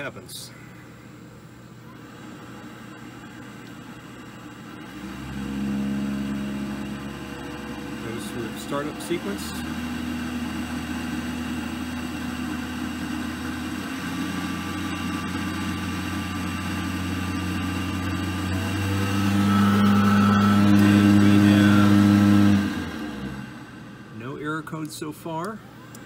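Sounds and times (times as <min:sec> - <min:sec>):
blower humming: 0:00.0 - 0:26.0.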